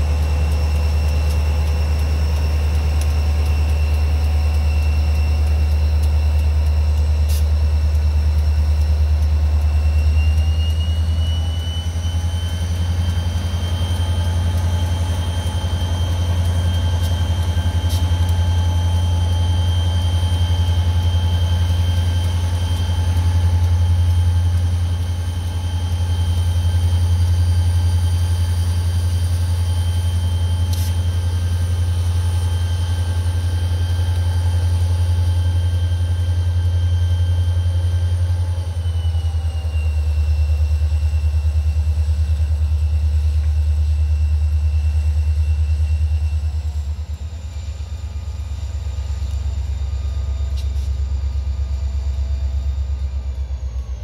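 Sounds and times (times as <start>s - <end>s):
diesel locomotive engine drone: 0.0s - 54.0s
high engine whine: 0.0s - 54.0s.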